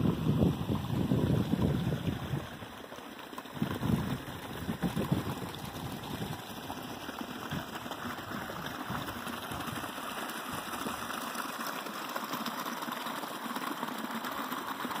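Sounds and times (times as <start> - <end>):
creek splashing over rocks: 0.0 - 15.0.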